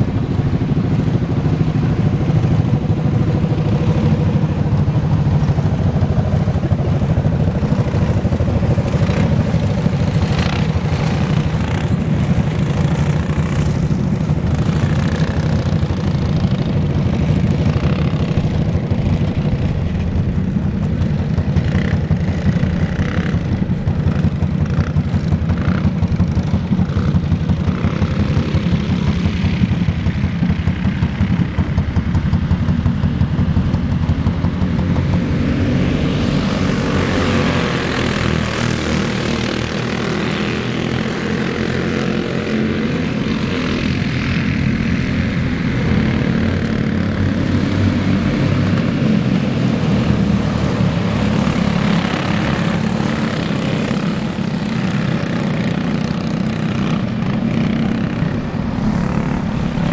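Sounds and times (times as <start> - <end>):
race kart engines buzzing: 0.0 - 59.9.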